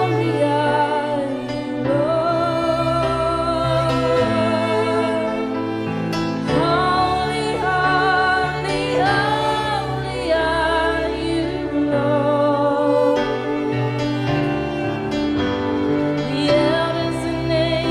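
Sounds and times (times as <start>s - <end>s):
person singing: 0.0s - 15.2s, 16.0s - 17.9s.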